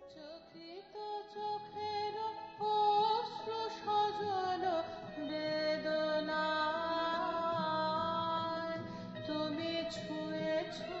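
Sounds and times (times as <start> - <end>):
slow melodic music: 0.0 - 11.0.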